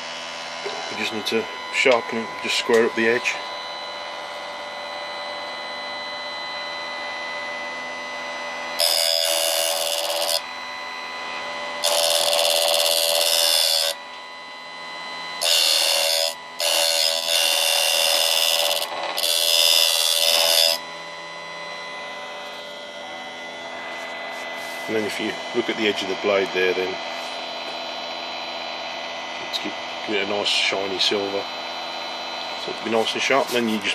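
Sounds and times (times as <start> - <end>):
grinding wheel whining: 0.0 - 33.9.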